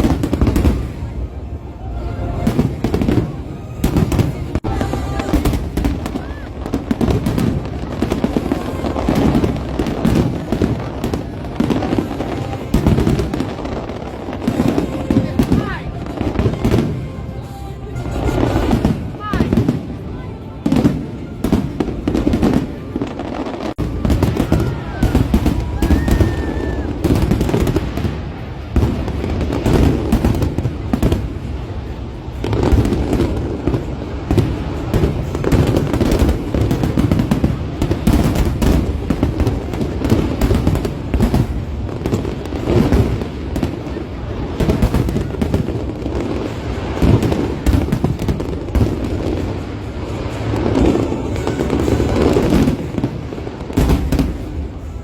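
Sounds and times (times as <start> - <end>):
firework whistling: 0.0 - 55.0
fireworks booming and crackling: 0.0 - 55.0.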